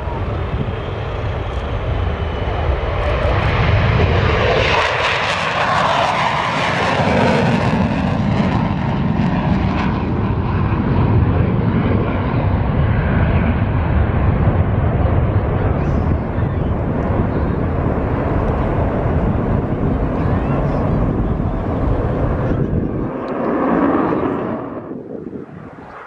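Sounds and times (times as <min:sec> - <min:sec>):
aircraft engines roaring: 0:00.0 - 0:26.0.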